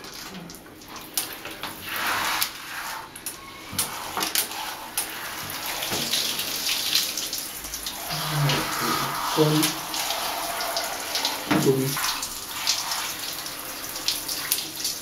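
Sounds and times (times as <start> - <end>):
shower water spraying on fur: 0.0 - 15.0.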